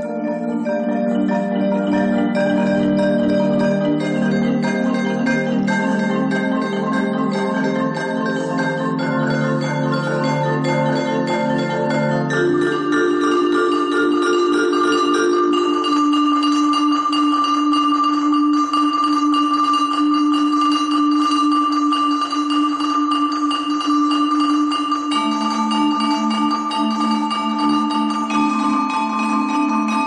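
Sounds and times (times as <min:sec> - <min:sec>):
marimba chords: 0:00.0 - 0:30.0.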